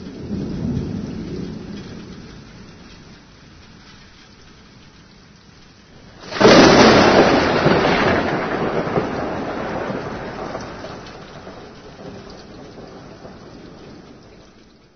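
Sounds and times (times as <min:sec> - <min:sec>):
thunder rolling: 0:00.0 - 0:03.1, 0:06.0 - 0:14.9
steady rain: 0:00.0 - 0:14.9.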